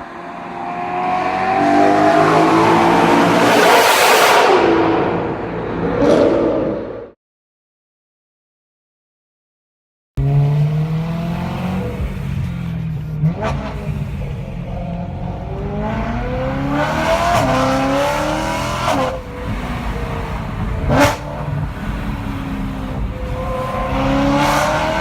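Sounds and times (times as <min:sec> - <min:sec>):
car engine accelerating: 0:00.0 - 0:07.2, 0:10.2 - 0:25.0.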